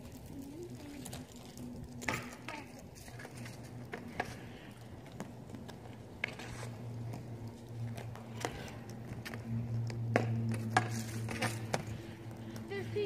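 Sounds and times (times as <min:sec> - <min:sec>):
hockey stick and ball on pavement: 0:00.0 - 0:13.0
steady low hum: 0:00.0 - 0:13.0.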